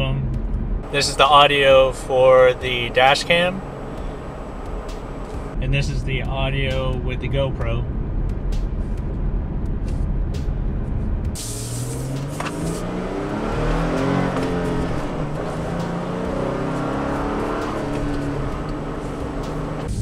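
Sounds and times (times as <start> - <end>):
pickup engine accelerating: 0.0 - 20.0.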